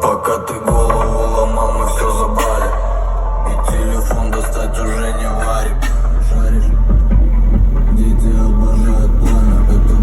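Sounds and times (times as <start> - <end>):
bass-heavy music through car speakers: 0.0 - 10.0.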